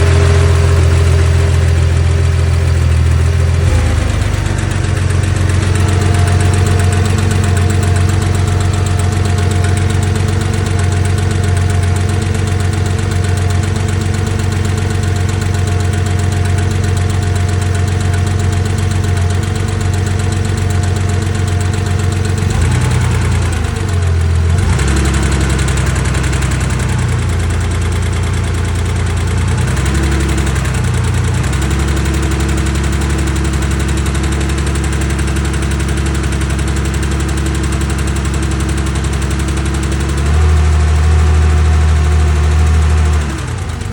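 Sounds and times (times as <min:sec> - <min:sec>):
car engine idling: 0:00.0 - 0:43.9
fast engine ticking: 0:00.0 - 0:43.9.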